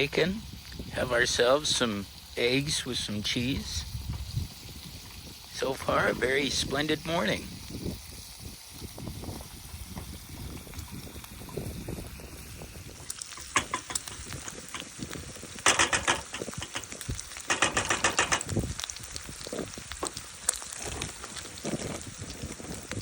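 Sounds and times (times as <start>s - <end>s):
bacon sizzling in a pan: 0.0s - 23.0s.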